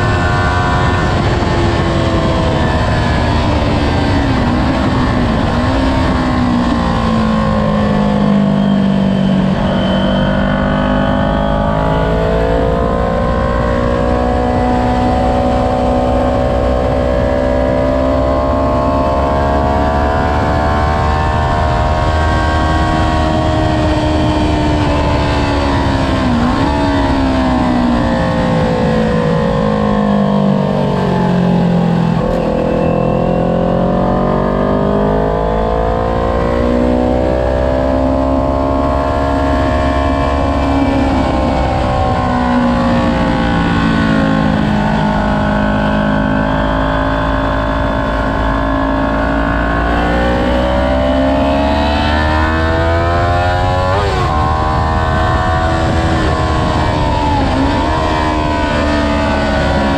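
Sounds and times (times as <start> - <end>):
motorcycle engine revving: 0.0 - 59.9
wind rumbling on microphone: 0.0 - 59.9.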